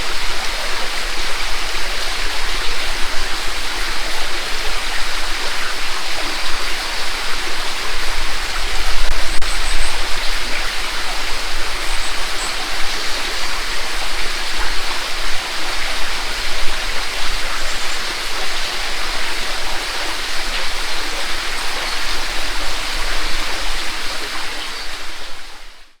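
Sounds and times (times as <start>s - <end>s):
creek rushing over rocks: 0.0s - 25.9s.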